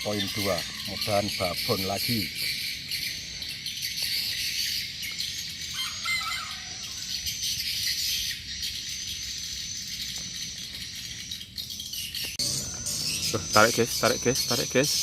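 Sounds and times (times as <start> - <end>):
bird calling: 0.0 - 15.0
insects trilling: 0.0 - 15.0.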